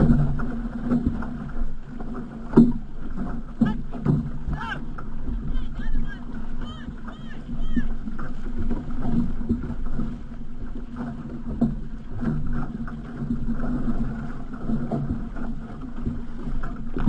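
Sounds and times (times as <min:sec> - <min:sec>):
paddle splashes: 0:00.0 - 0:17.0
water rushing along canoe hull: 0:00.0 - 0:17.0.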